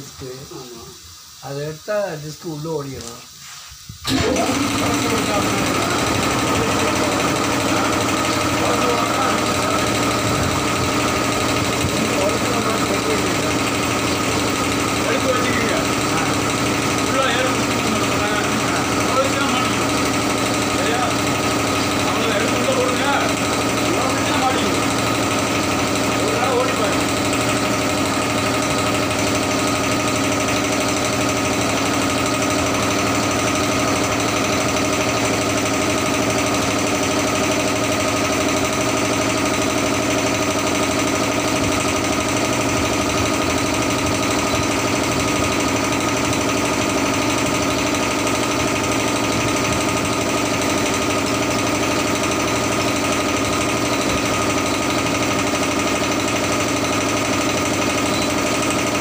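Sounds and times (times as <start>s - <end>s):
machine droning: 3.9s - 59.0s.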